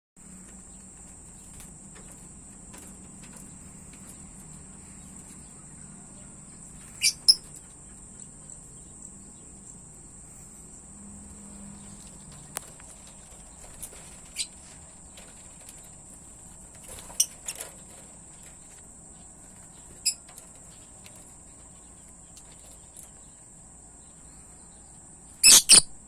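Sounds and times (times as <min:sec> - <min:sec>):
cricket trilling: 0:00.2 - 0:26.0
songbird chirps: 0:00.2 - 0:26.0.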